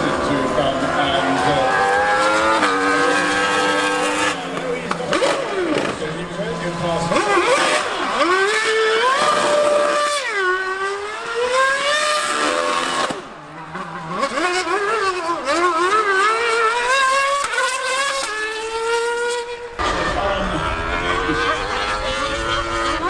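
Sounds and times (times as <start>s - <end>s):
racing engine at high revs: 0.0s - 23.0s.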